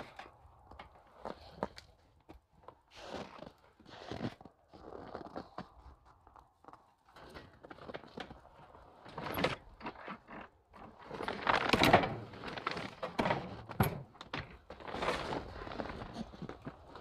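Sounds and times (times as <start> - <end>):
rustling and scraping: 0.0 - 17.0.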